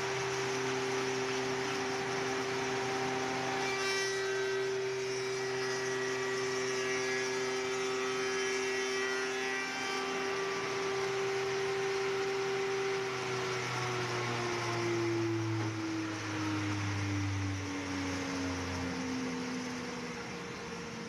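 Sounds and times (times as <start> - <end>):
woodworking machine hum: 0.0 - 21.0.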